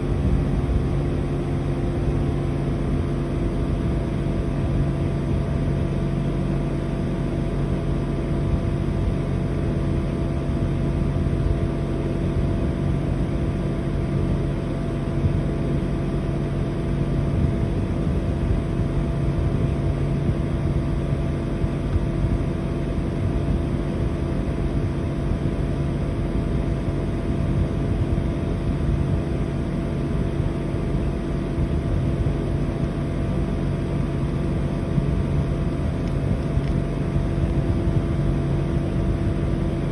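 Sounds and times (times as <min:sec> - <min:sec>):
air conditioner compressor hum: 0:00.0 - 0:39.9
fan rushing: 0:00.0 - 0:39.9.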